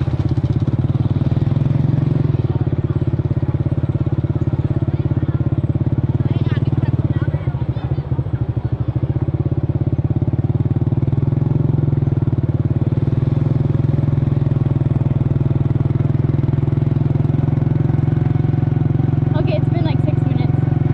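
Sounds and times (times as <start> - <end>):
scooter engine idling: 0.0 - 20.9.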